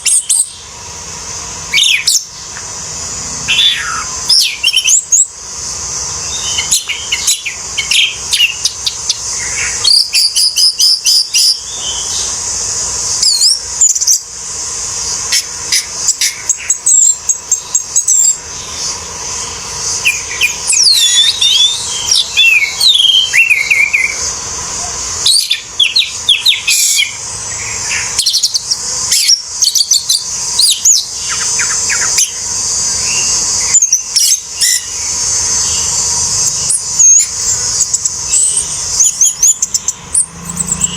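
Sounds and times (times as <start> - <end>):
steady high hiss: 0.0 - 40.9
thrush singing: 0.0 - 40.9.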